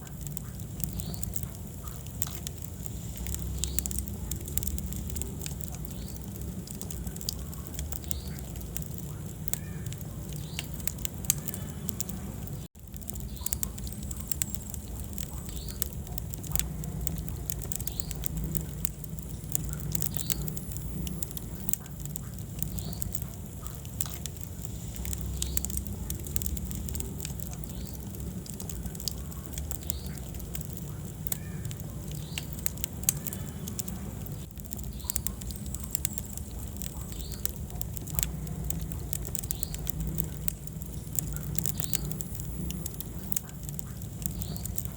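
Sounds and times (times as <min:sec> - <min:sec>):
low rumble of flames: 0:00.0 - 0:44.9
wood fire crackling and popping: 0:00.0 - 0:44.9.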